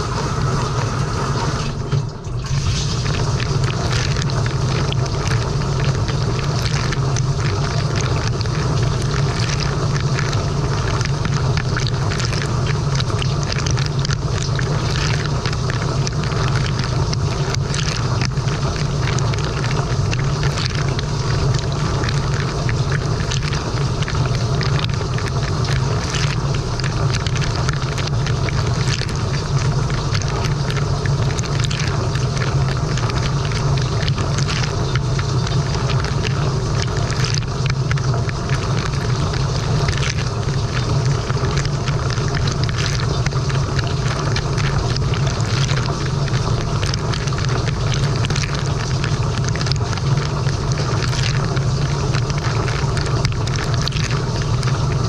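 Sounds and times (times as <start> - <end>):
low pump hum: 0.0 - 55.0
water jets spraying and splashing: 0.0 - 55.0.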